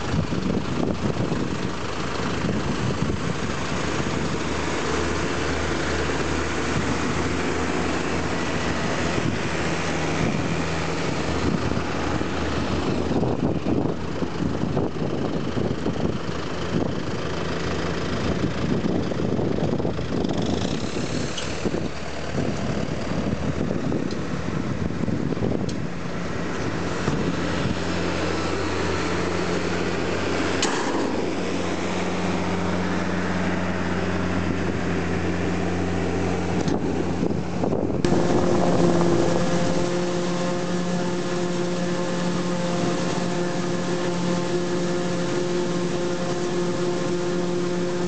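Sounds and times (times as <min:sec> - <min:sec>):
hydraulics raising trailer: 0:00.0 - 0:48.0
tractor diesel engine running: 0:00.0 - 0:48.0.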